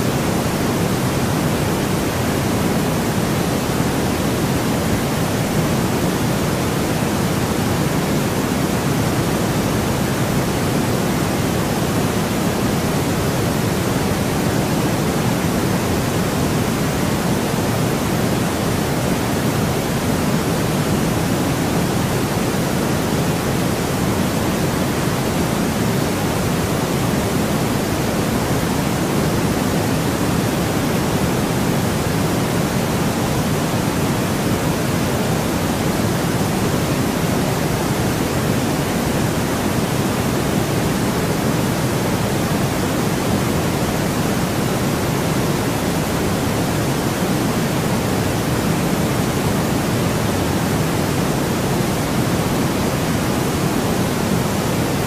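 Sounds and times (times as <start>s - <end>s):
deep white noise: 0.0s - 55.0s.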